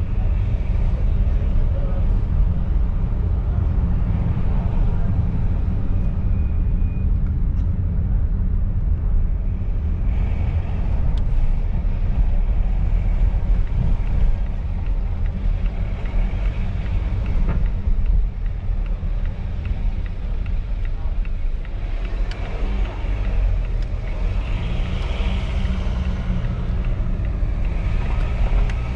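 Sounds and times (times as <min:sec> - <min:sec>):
diesel engine rumble: 0:00.0 - 0:28.9
tyres on the road: 0:00.0 - 0:28.9.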